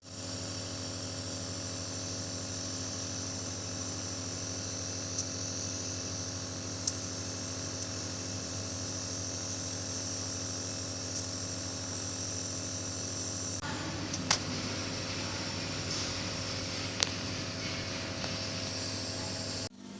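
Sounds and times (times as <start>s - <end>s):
air hissing: 0.0s - 19.7s
nebulizer motor hum: 0.0s - 19.8s.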